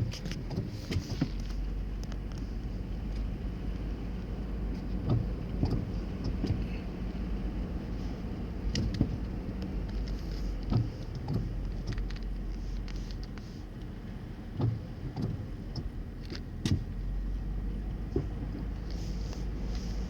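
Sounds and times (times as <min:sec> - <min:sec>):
vehicle driving through floodwater: 0:00.0 - 0:20.0.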